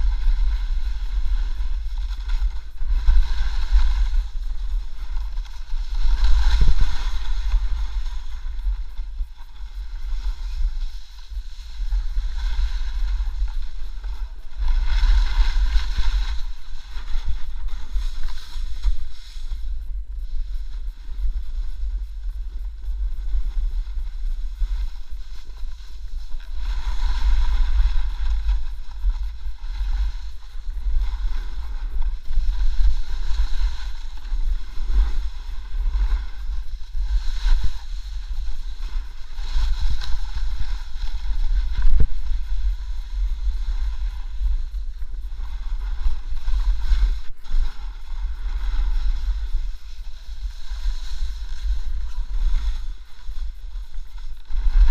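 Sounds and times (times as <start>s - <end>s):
snowboard carving through snow: 0.0s - 54.9s
wind on microphone: 0.0s - 54.9s.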